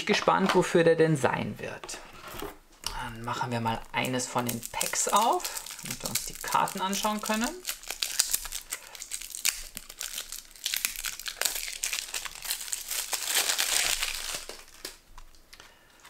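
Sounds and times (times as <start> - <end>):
shrink-wrap crinkling and tearing: 3.0 - 16.0.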